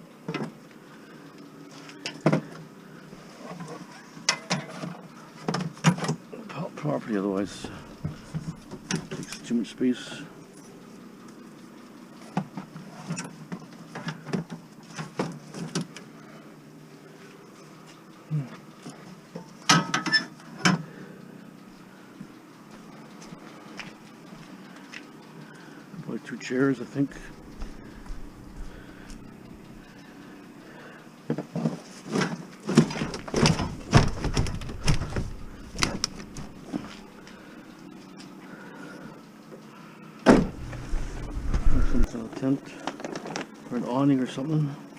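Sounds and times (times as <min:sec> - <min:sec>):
faint background hum: 0:00.0 - 0:44.9.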